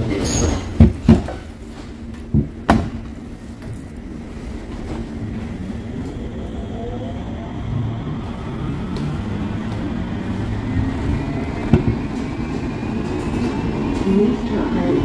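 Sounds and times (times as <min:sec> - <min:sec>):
train car running rumble: 0:00.0 - 0:15.0.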